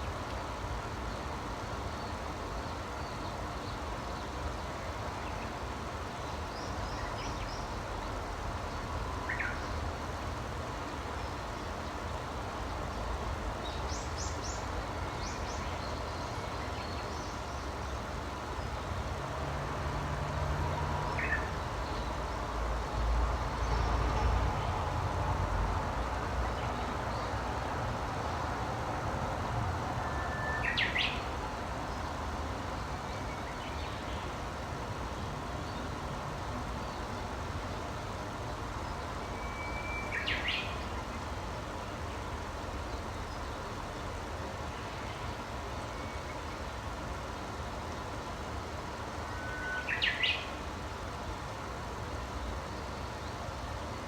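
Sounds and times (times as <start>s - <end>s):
wild birds chirping: 0.0s - 19.8s, 20.7s - 25.0s, 29.3s - 54.0s
low rumble of background noise: 0.0s - 54.0s.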